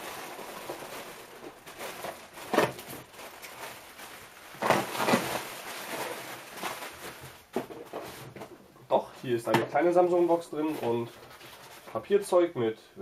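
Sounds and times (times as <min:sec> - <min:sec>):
plastic packing rustling: 0:00.0 - 0:08.6, 0:09.2 - 0:12.3.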